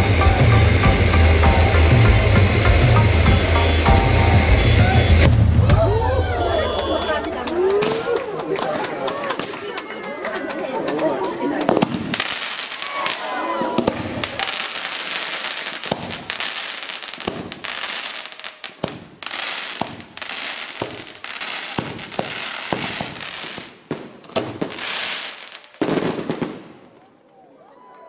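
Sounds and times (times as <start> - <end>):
fireworks hissing: 0.0 - 10.0, 10.8 - 26.8
fireworks crackling and popping: 0.0 - 27.1.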